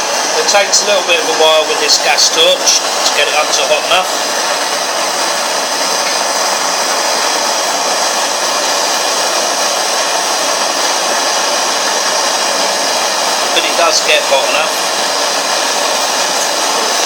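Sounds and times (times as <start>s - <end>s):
blowtorch flame hissing: 0.0s - 17.0s.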